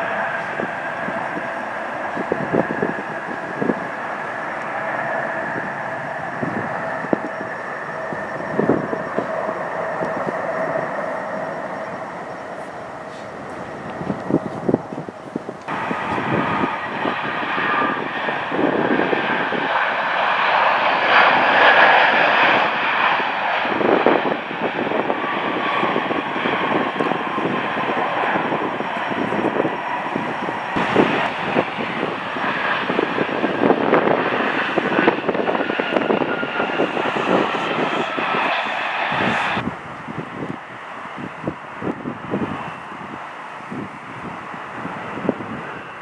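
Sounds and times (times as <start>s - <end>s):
jet airliner engines roaring: 0.0s - 46.0s.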